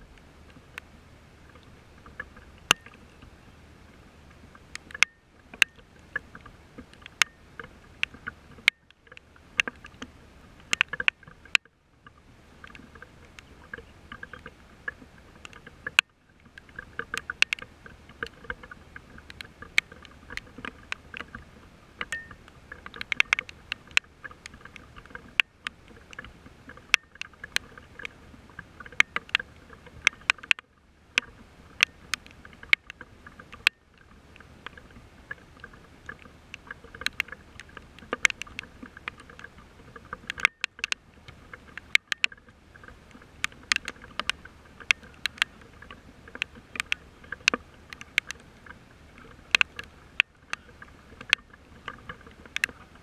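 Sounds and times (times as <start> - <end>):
rain falling: 0.0 - 53.0
sharp taps of raindrops: 0.0 - 53.0.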